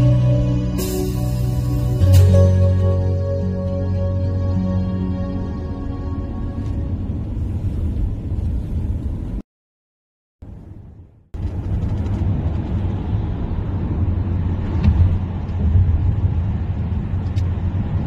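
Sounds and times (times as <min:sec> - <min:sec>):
car road rumble from inside: 0:00.0 - 0:09.4, 0:10.4 - 0:18.0.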